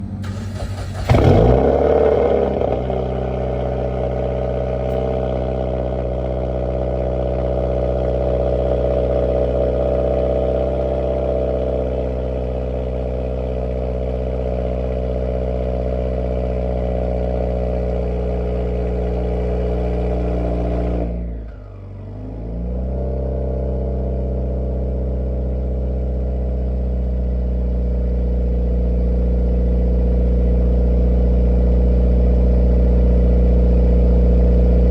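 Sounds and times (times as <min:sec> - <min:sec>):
car engine cold start and idle: 0:00.0 - 0:34.9.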